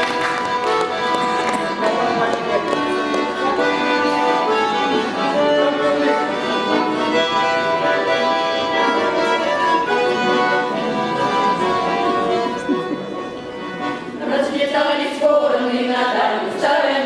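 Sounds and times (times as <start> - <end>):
accordion-led folk music: 0.0 - 17.0.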